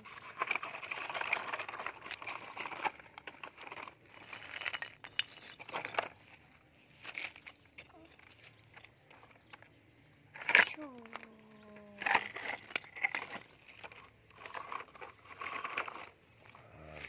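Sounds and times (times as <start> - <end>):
brick pieces clinking: 0.0 - 17.0.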